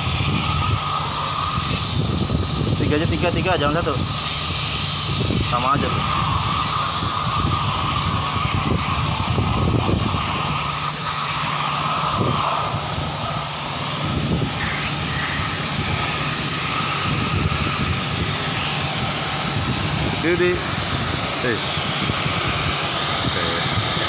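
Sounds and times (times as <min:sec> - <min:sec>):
machine hum: 0:00.0 - 0:24.0
spray gun jet hissing: 0:00.0 - 0:24.0.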